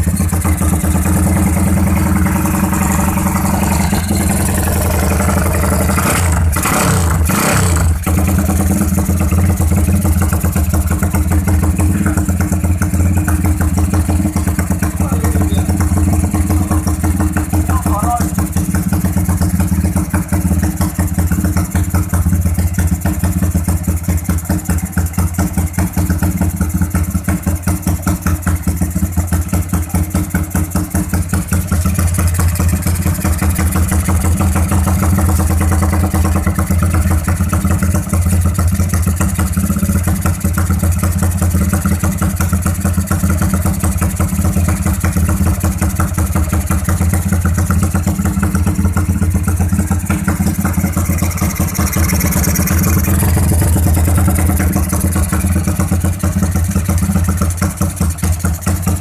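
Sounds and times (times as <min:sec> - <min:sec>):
engine idling through exhaust: 0:00.0 - 0:59.0.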